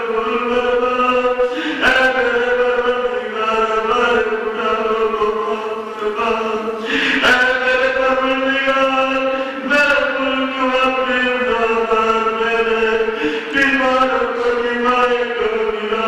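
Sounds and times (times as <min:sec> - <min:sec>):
man chanting into a microphone: 0:00.0 - 0:16.0.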